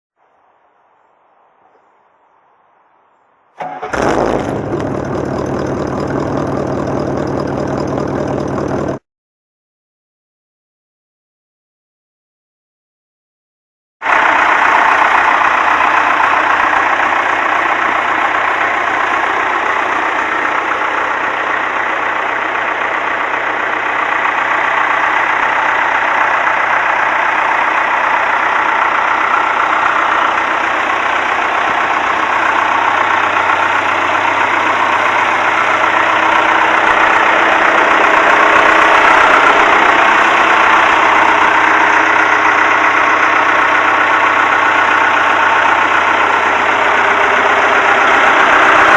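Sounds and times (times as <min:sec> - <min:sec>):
diesel engine idling: 0:03.6 - 0:09.0, 0:14.0 - 0:48.9.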